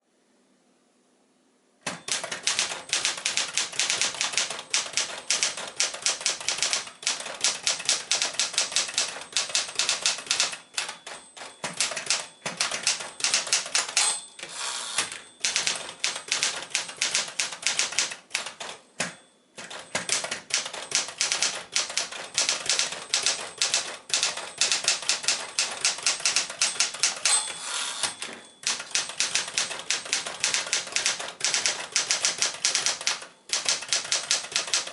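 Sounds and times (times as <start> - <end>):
typewriter key strikes: 1.8 - 14.4, 15.0 - 34.9.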